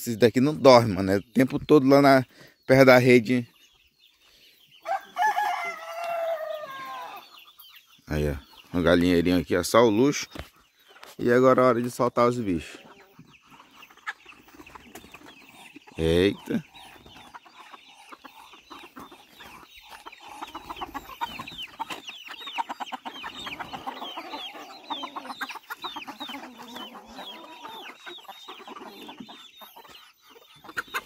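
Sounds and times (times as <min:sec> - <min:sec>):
chickens clucking and calling: 0:00.0 - 0:31.0.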